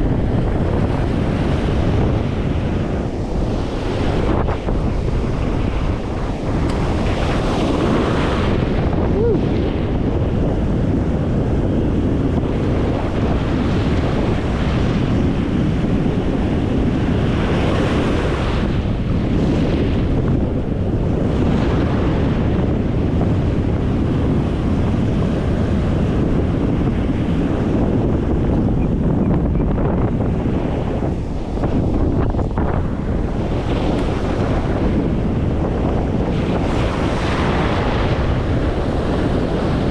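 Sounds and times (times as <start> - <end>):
surf: 0.0 - 39.9
wind buffeting microphone: 0.0 - 39.9.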